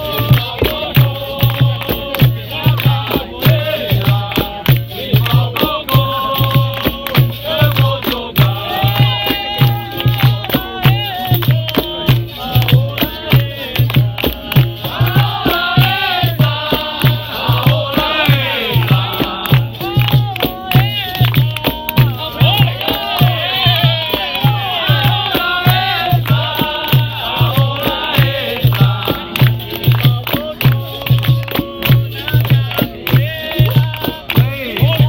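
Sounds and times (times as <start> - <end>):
hand drum steady beat: 0.0 - 35.0
people singing: 0.0 - 35.0
rattling percussion: 0.0 - 35.0.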